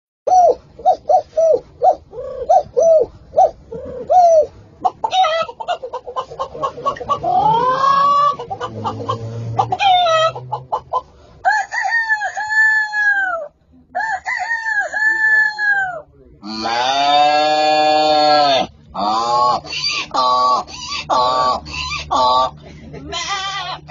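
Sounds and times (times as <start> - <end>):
person imitating chickens: 0.3 - 23.9.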